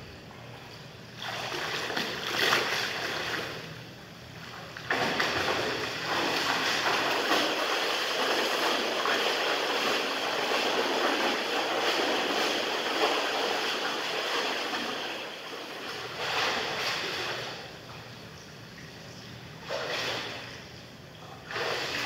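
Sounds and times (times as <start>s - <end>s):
swimmer splashing in pool water: 1.2s - 18.1s, 19.5s - 20.7s, 21.4s - 22.0s.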